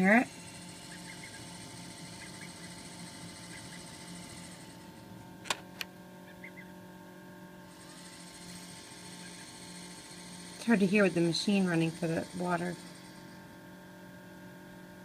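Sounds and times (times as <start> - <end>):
egg incubator hum and hiss: 0.0 - 15.0.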